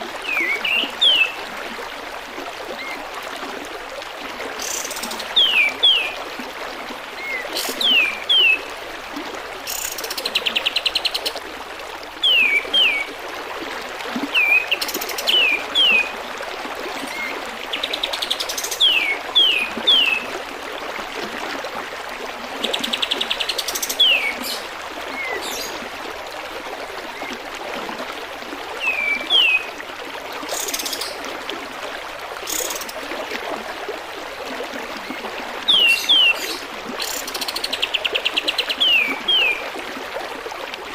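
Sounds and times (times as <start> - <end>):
trickle of flowing water: 0.0 - 40.9.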